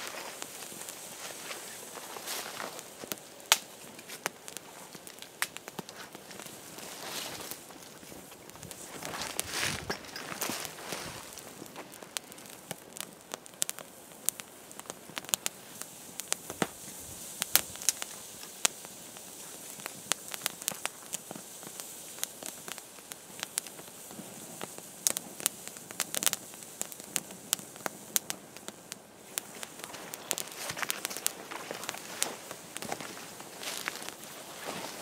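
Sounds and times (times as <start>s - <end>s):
fire hiss: 0.0s - 35.0s
wood fire crackling and popping: 0.0s - 35.0s.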